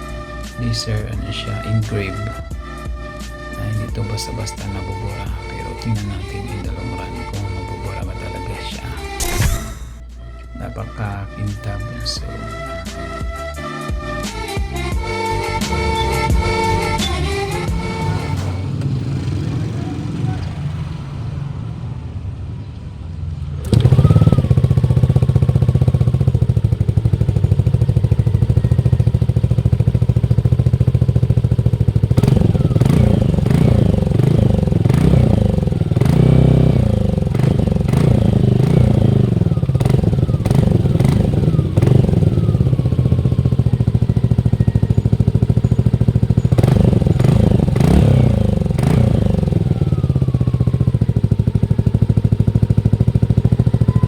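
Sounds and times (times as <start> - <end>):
scooter engine idling and revving: 0.0 - 10.4, 11.0 - 54.0.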